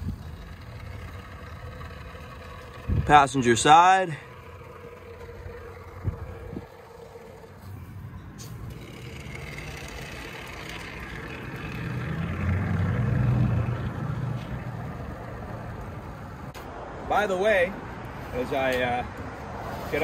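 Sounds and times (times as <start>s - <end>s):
passing vehicle rumble: 0.0s - 20.0s.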